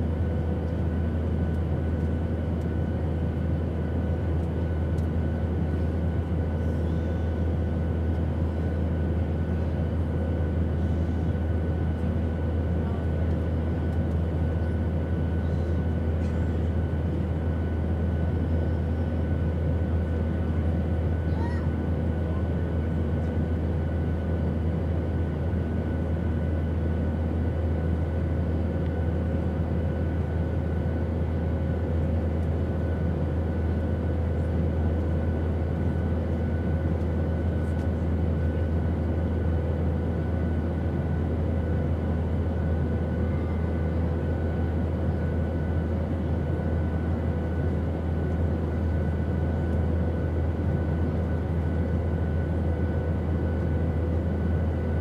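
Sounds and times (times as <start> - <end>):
airplane deep drone: 0.0 - 55.0.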